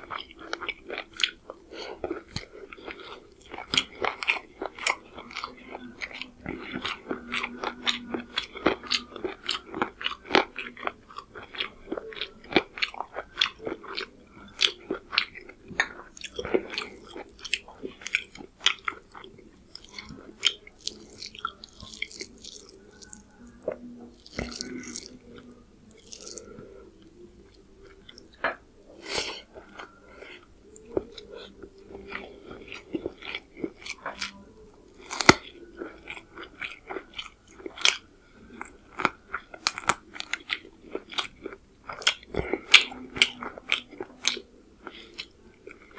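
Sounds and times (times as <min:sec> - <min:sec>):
person chewing with wet mouth sounds: 0:00.0 - 0:45.9.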